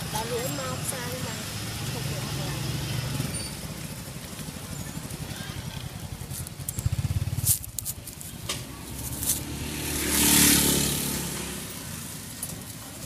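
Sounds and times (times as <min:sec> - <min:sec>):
vehicle engine passing by: 0:01.2 - 0:12.8.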